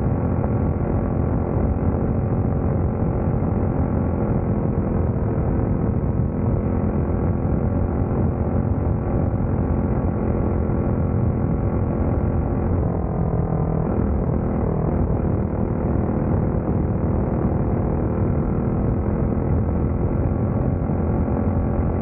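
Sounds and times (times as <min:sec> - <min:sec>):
race car engine droning: 0:00.0 - 0:22.0.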